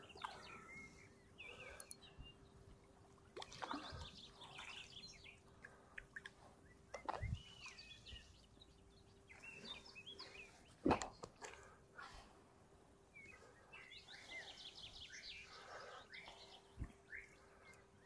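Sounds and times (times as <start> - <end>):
songbirds chirping and singing: 0.0 - 11.4, 13.1 - 18.0
faint steady hum: 0.0 - 18.0.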